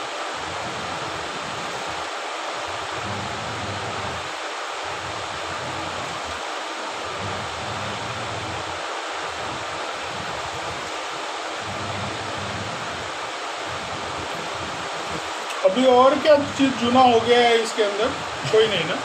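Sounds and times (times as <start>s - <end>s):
water churning: 0.0s - 17.4s
washing machine motor hum: 0.0s - 19.0s.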